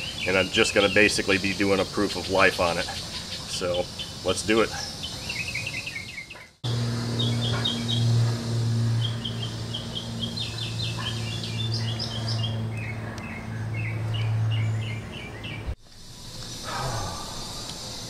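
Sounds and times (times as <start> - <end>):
small birds chirping: 0.0 - 15.8
steady low hum: 0.0 - 18.0.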